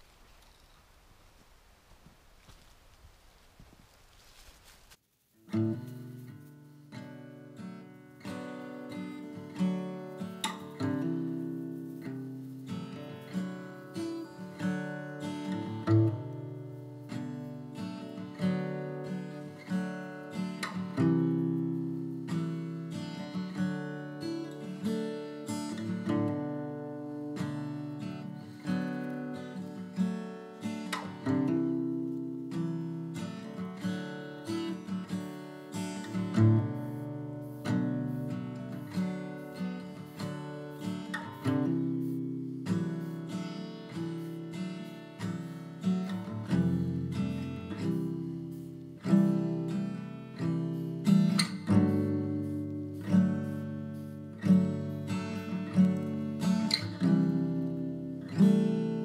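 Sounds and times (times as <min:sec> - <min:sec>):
acoustic guitar plucked and strummed: 0:05.4 - 0:59.0.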